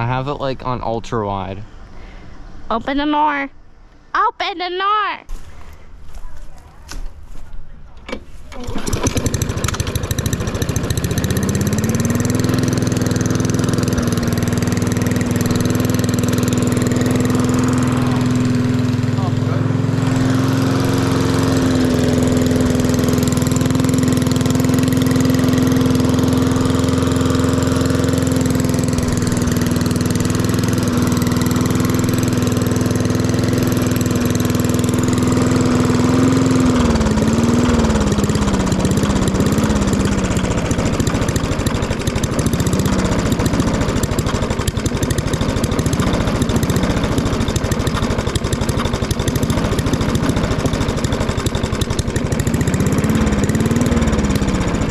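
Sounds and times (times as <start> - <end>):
lawn mower engine running: 8.1 - 54.9.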